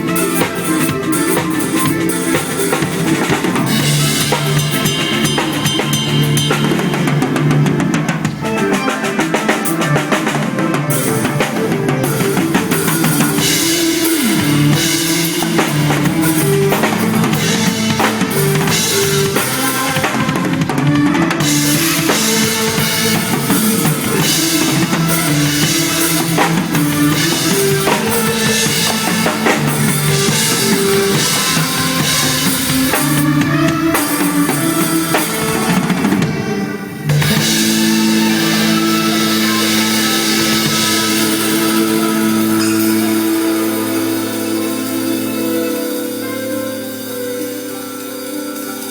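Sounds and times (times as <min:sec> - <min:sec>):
backing track melody: 0:00.0 - 0:48.9
drum kit playing: 0:00.0 - 0:48.9.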